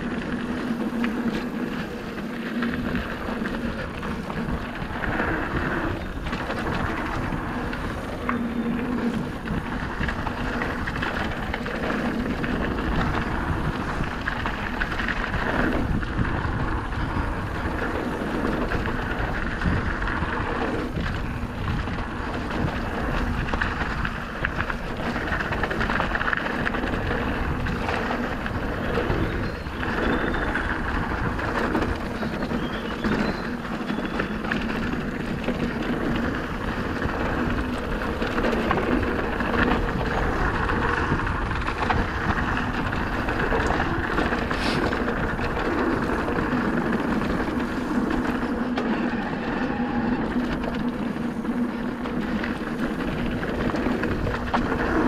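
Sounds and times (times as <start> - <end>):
tyre and wind rush: 0.0 - 55.0.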